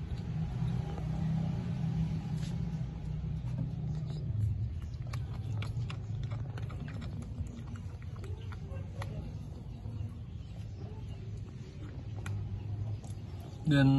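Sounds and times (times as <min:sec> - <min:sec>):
low motor rumble: 0:00.0 - 0:13.9.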